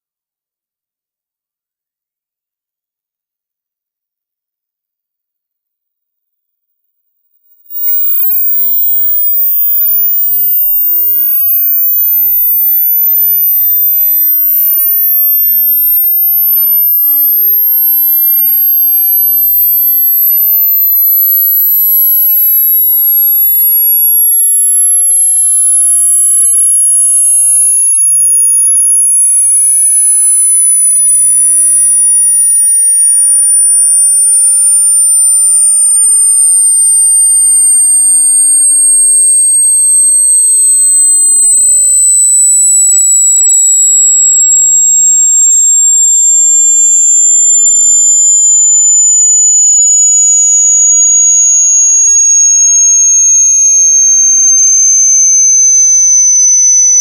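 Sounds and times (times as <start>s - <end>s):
high sine tones gliding: 7.7s - 57.0s
low sine tone sweeping: 7.7s - 57.0s.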